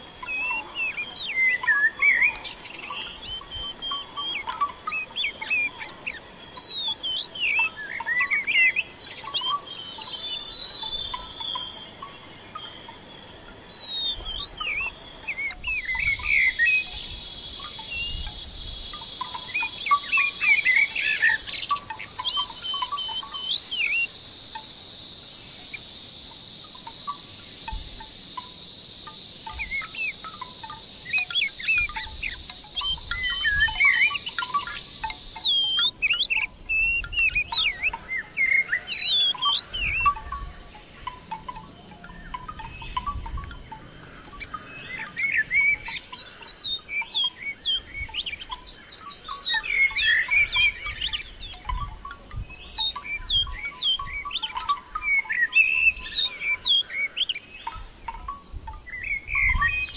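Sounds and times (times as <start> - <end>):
small birds twittering: 0.0 - 59.9.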